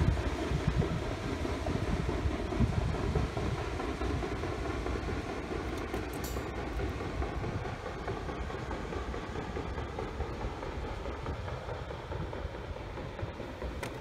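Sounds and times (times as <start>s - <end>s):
paddle wheels churning water: 0.0s - 14.0s.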